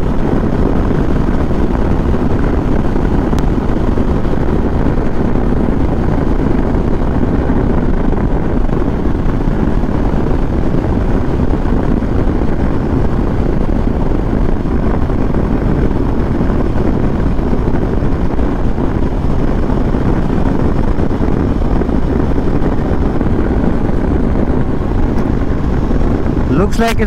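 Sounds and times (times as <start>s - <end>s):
motorcycle engine drone: 0.0s - 27.0s
wind rushing on microphone: 0.0s - 27.0s.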